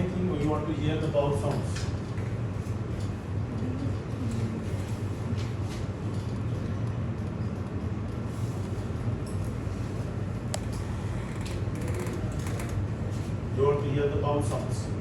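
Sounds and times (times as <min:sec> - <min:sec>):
low rumbling hum: 0:00.0 - 0:15.0.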